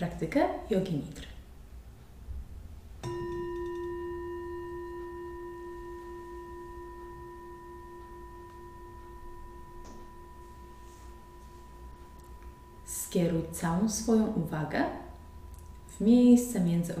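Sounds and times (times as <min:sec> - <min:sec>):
singing bowl ringing: 0:03.0 - 0:17.0.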